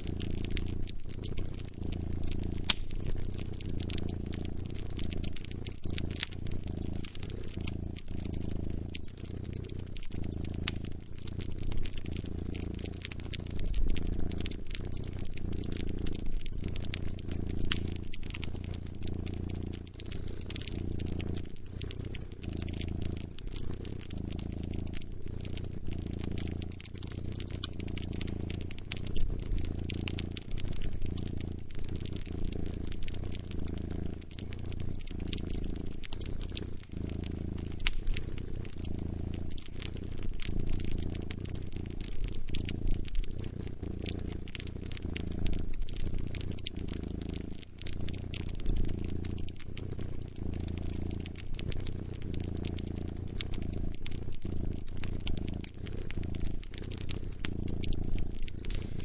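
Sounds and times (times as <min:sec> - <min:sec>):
cat purring: 0:00.0 - 0:59.0
wood fire crackling: 0:00.0 - 0:59.0.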